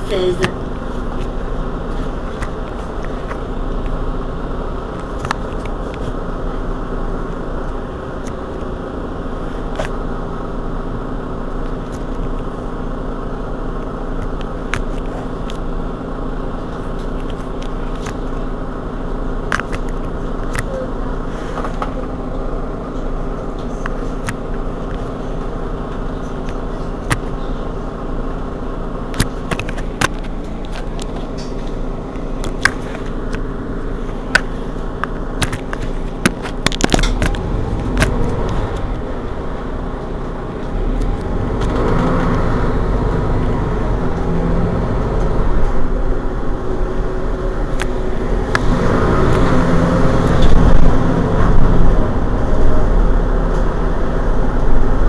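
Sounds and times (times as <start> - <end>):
bus engine idling hum: 0.0 - 55.0.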